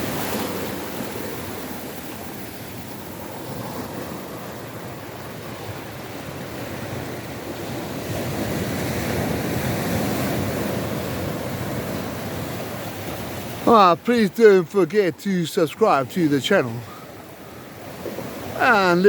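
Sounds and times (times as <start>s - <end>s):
ocean waves washing in: 0.0s - 19.0s.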